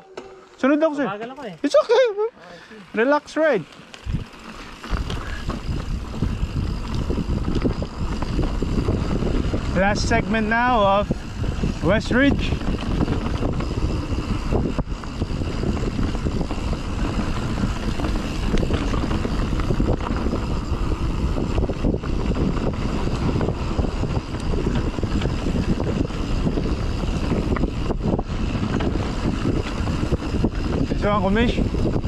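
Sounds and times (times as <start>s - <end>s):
tyres on dirt: 0.0s - 32.0s
bike clicks and rattles: 2.8s - 32.0s
wind rushing over microphone: 4.0s - 32.0s.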